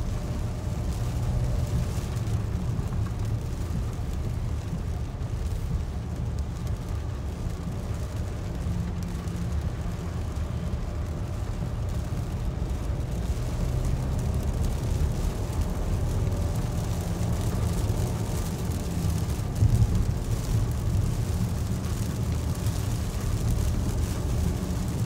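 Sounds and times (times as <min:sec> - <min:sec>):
car cabin rumble on wet road: 0:00.0 - 0:25.0.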